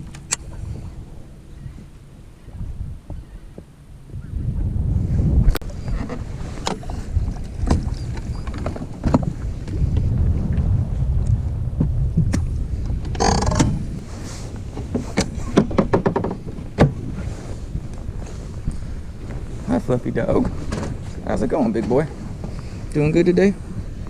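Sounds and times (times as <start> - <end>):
boat engine rumble: 0.0 - 24.0
wind on microphone: 0.0 - 24.0.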